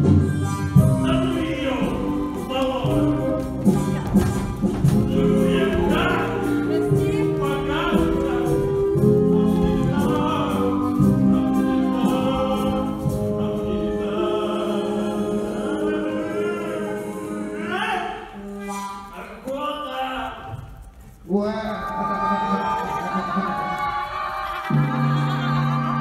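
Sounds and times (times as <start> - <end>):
song with singing: 0.0 - 26.0.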